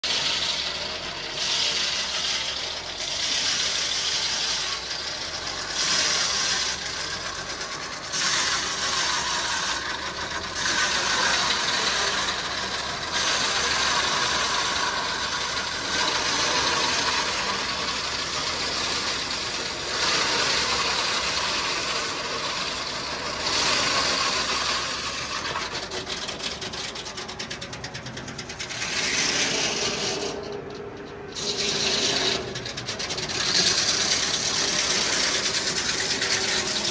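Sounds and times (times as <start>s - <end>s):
circular saw cutting log: 0.0s - 36.9s
tractor engine under load: 0.0s - 36.9s.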